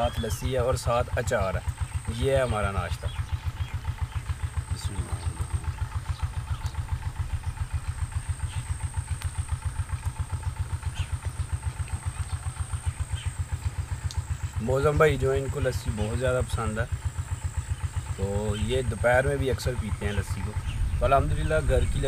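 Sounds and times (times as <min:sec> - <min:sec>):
engine thudding steadily: 0:00.0 - 0:22.0.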